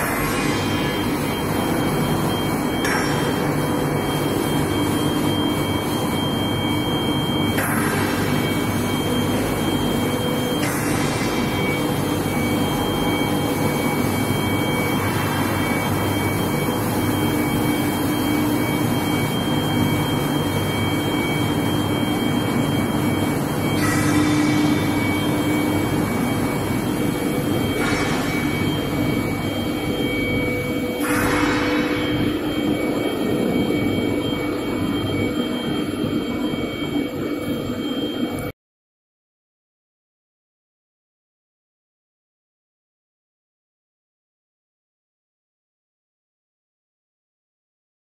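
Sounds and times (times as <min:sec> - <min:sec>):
loud industrial hum: 0:00.0 - 0:38.5.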